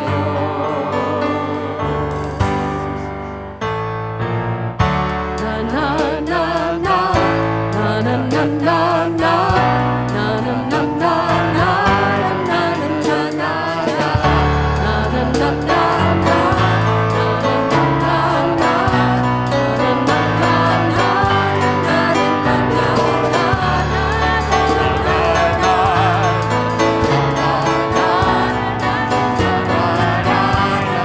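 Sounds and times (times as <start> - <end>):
people singing worship music: 0.0 - 3.4, 5.4 - 31.0
keyboard and bass accompaniment: 0.0 - 31.0.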